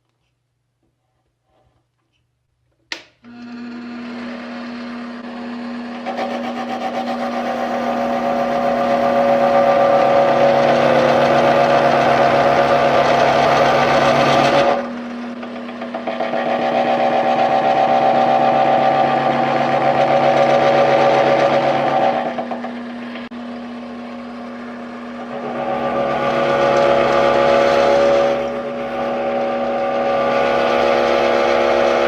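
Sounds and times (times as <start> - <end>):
lathe motor humming: 3.3 - 32.0
lathe tool cutting steel: 3.3 - 32.0.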